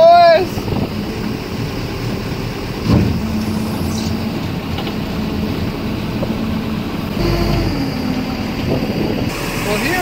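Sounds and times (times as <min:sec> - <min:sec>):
boat engine running at low speed: 0:00.0 - 0:10.0.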